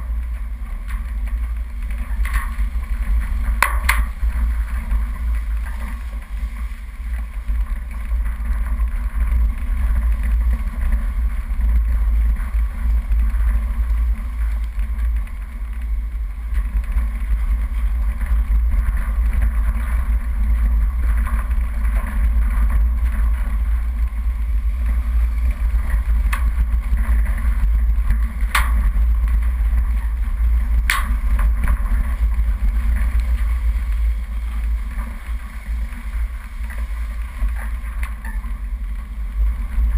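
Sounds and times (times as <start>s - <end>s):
engine and road rumble: 0.0s - 39.9s
wind buffeting on camera: 0.0s - 39.9s.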